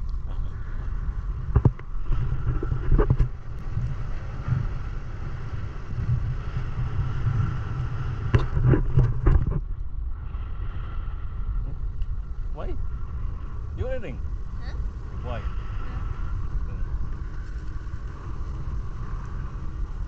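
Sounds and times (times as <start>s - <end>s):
speedboat engine rumbling: 0.0s - 20.0s
wind noise: 0.0s - 20.0s.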